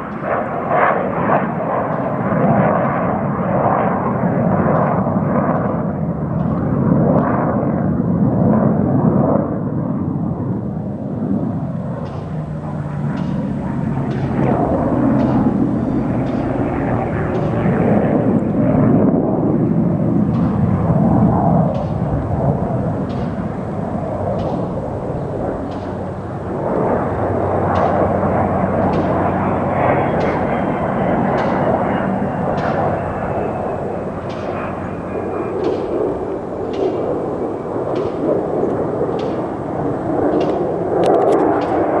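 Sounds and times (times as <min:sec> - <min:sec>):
airplane engine roar: 0:00.0 - 0:42.0.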